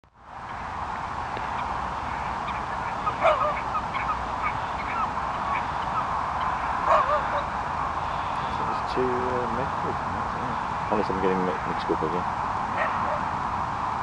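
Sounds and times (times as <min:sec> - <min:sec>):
steady background hiss: 0:00.1 - 0:14.0
gulls calling: 0:00.4 - 0:14.0.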